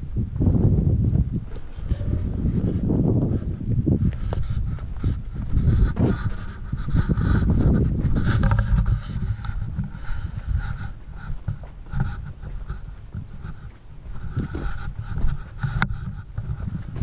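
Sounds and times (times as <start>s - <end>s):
footsteps on dry dirt: 0.0s - 17.0s
wind buffeting microphone: 0.0s - 17.0s.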